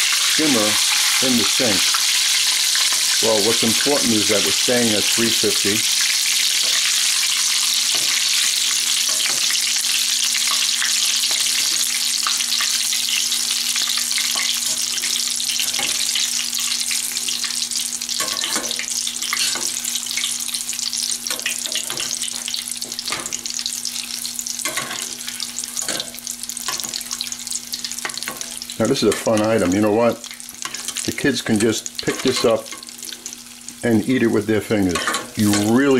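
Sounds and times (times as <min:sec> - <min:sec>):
oil popping and crackling: 0:00.0 - 0:33.8
deep-frying sizzle: 0:00.0 - 0:35.9.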